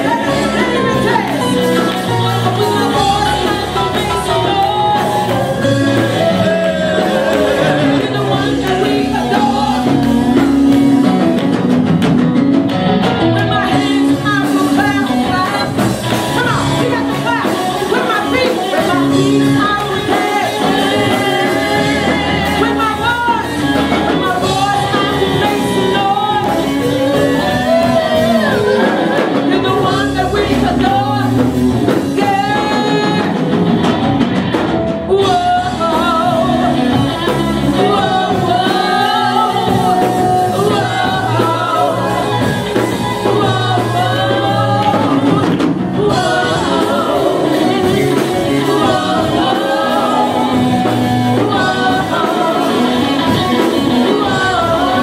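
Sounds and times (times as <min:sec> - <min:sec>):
backing vocalists: 0:00.0 - 0:55.0
drum kit: 0:00.0 - 0:55.0
electric guitar: 0:00.0 - 0:55.0
woman singing lead: 0:00.0 - 0:55.0.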